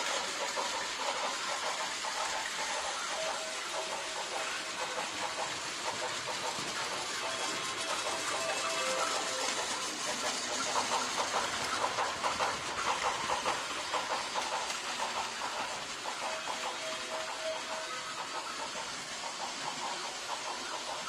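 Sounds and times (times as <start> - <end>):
toy train motor whir: 0.0 - 21.0
wheels clicking on track joints: 0.0 - 21.0.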